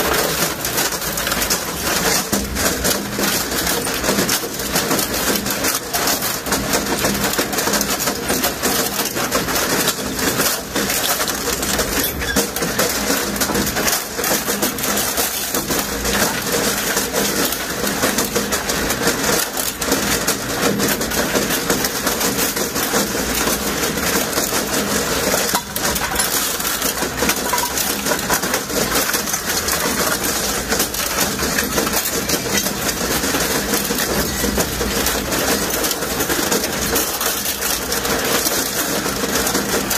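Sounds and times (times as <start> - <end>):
clatter of knocks and crunches: 0.0 - 39.9
shredder running: 0.0 - 39.9.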